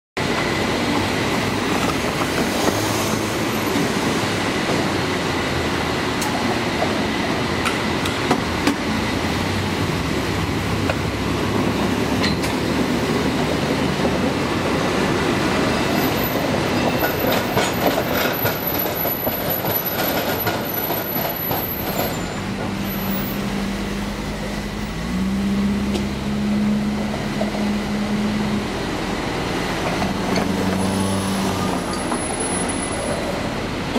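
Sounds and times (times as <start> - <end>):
cable car rolling: 0.2 - 25.0, 25.6 - 33.9
cars driving across rails: 0.2 - 33.9
haul cable running under street: 0.2 - 33.9.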